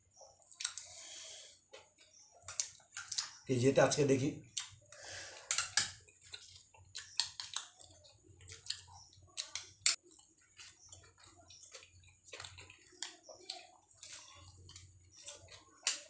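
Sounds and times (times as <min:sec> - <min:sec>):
chewing and lip-smacking: 0:00.3 - 0:01.0, 0:01.7 - 0:03.4, 0:04.5 - 0:16.0.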